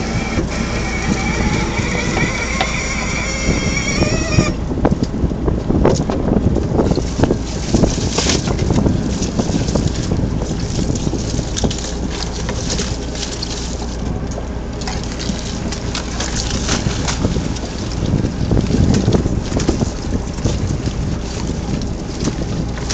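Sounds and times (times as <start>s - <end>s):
low rumble: 0.0s - 22.9s
wind buffeting microphone: 0.0s - 22.9s.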